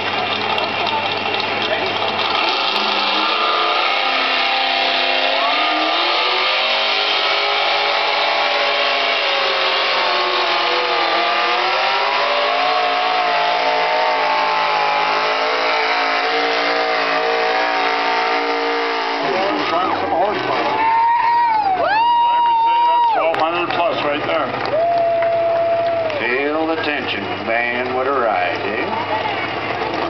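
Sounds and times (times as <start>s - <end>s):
tractor engine at full throttle: 0.0s - 21.9s, 23.0s - 30.0s.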